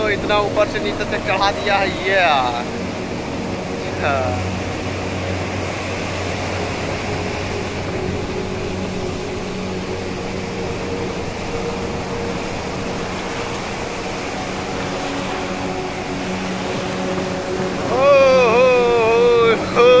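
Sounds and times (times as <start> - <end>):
constant rushing noise: 0.0 - 20.0
steady engine hum: 0.0 - 20.0.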